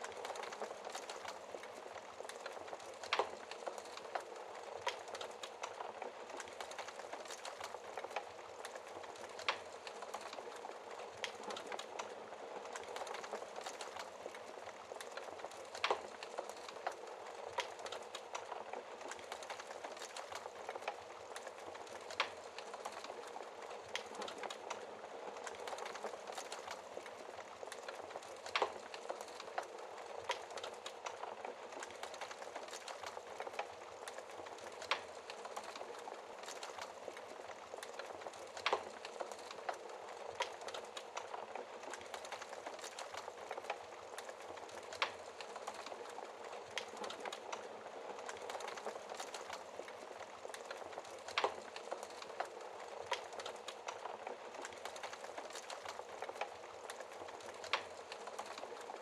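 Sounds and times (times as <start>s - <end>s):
burning logs crackling: 0.0s - 59.0s.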